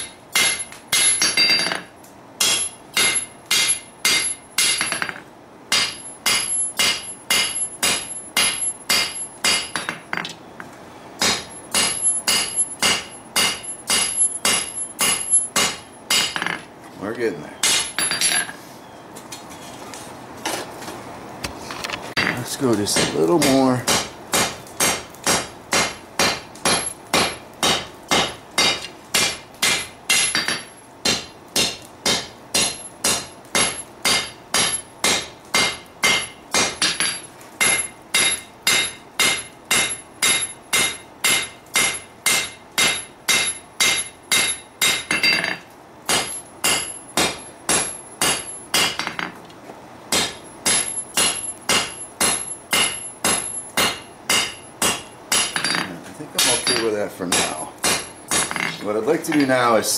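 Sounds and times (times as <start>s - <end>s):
hammer striking metal on anvil: 0.0s - 10.3s, 11.2s - 16.6s, 17.6s - 18.6s, 22.2s - 49.4s, 50.1s - 59.7s.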